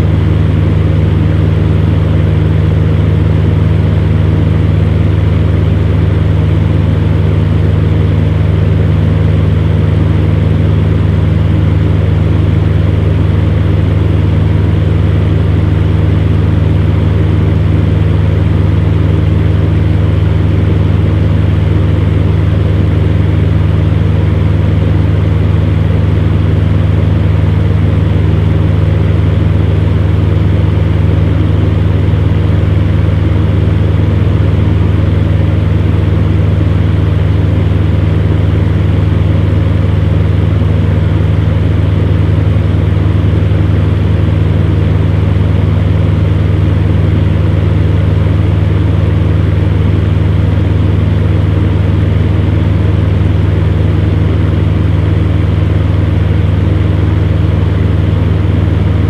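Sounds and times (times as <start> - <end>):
fan heater humming: 0.0 - 59.0.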